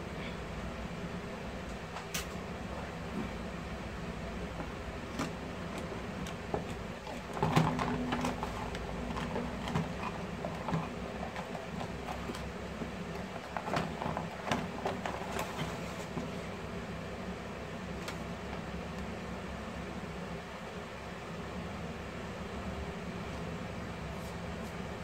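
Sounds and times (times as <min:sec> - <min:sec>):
steady low background hum: 0:00.0 - 0:25.0.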